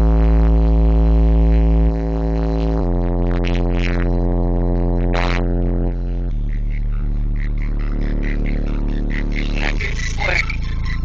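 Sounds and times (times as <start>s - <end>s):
bass-heavy electronic music: 0.0s - 11.0s.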